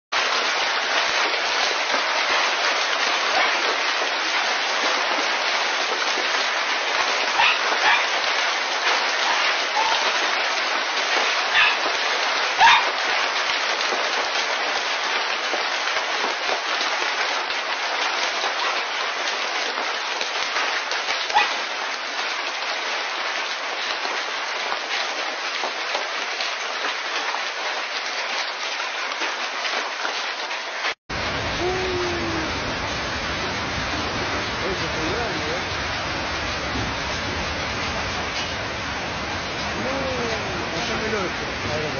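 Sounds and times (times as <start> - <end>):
hail falling on paving: 0.2 - 41.9.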